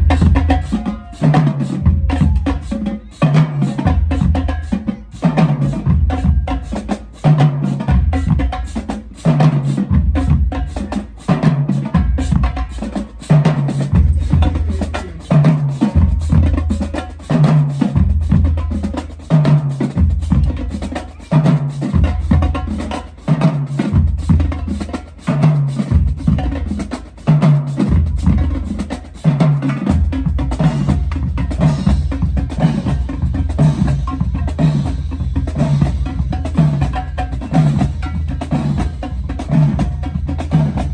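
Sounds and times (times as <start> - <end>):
music with heavy drum beat: 0.0 - 40.9.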